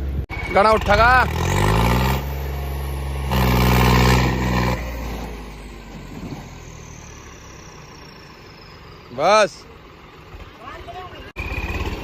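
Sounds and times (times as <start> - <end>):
tractor diesel engine at high revs: 0.0 - 12.0.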